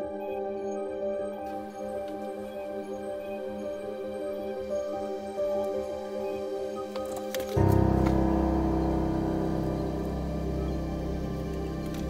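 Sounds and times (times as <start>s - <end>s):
ambient synthesizer chords: 0.0s - 12.0s.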